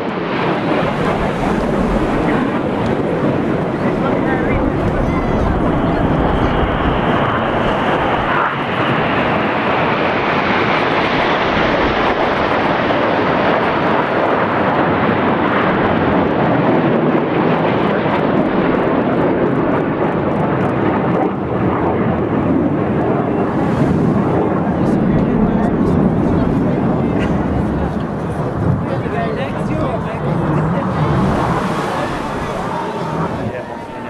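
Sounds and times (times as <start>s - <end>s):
jets passing overhead: 0.0s - 34.0s.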